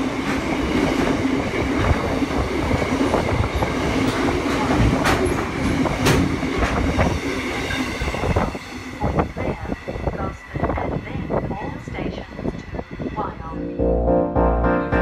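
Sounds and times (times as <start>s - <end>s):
steel wheels rumbling on rail: 0.0s - 13.6s.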